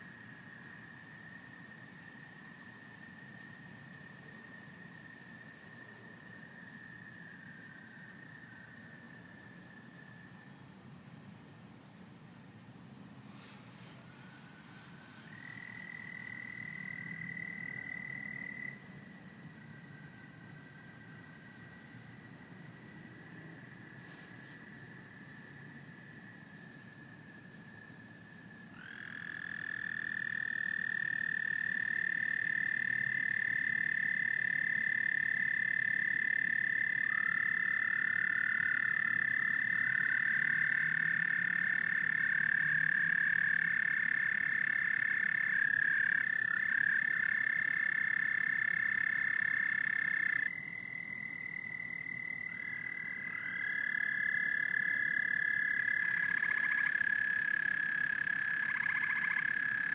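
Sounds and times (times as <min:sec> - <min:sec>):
frogs trilling in chorus: 0:00.0 - 0:10.6, 0:13.9 - 0:59.9.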